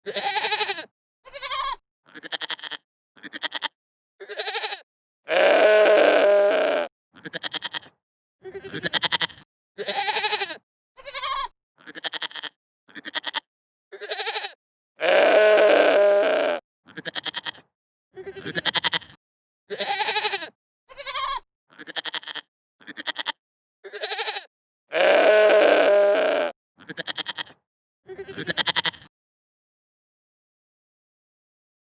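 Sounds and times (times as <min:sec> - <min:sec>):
goat bleating: 0:00.1 - 0:07.9, 0:08.6 - 0:17.6, 0:18.2 - 0:29.1.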